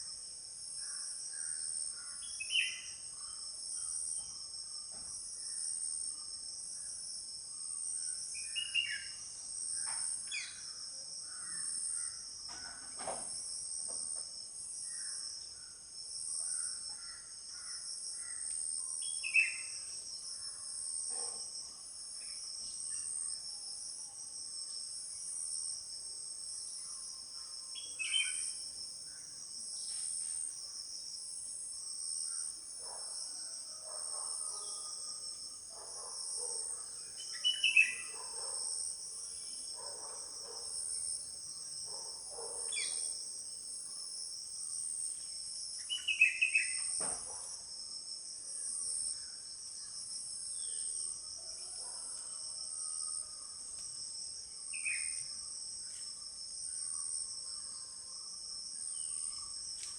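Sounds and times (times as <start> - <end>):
shrill insect chorus pulsing: 0.0 - 59.9.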